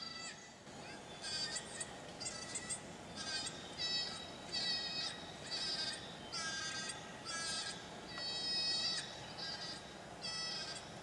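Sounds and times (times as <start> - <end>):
bleating animal distress call: 0.0 - 0.5, 1.2 - 10.9.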